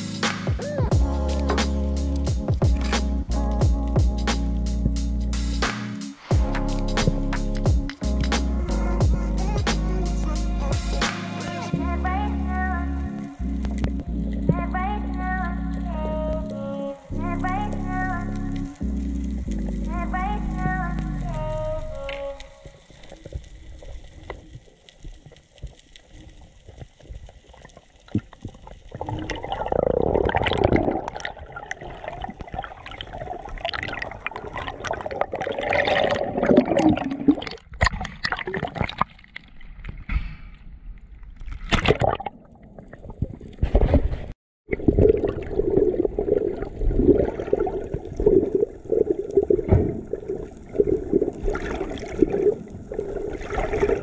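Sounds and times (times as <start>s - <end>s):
muffled underwater rushing water: 6.2s - 40.2s, 40.8s - 54.0s.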